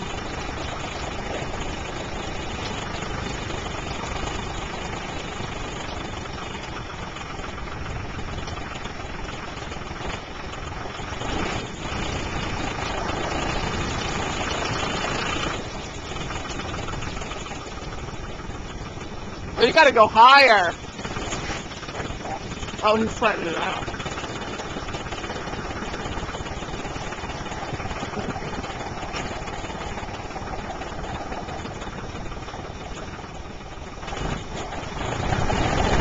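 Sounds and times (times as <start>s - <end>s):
tractor engine working under load: 0.0s - 36.0s.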